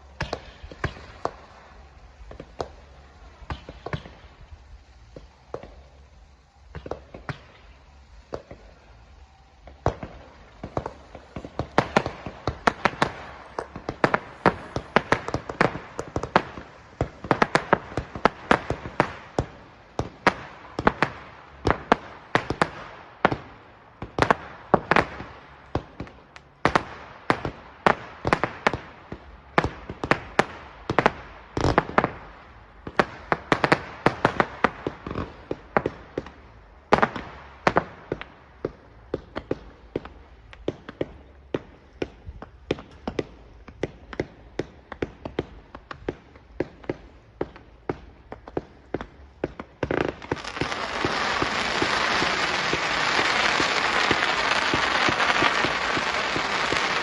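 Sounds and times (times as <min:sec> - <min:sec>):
fireworks bursting with sharp bangs: 0:00.0 - 0:57.0.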